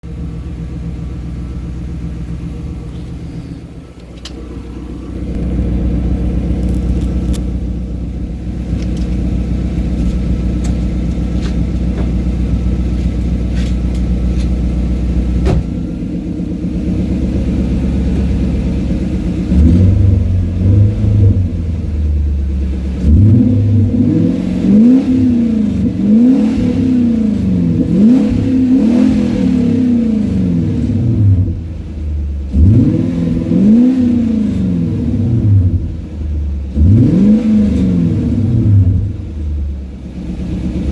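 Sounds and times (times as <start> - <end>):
car exhaust idling and revving: 0.0 - 40.9.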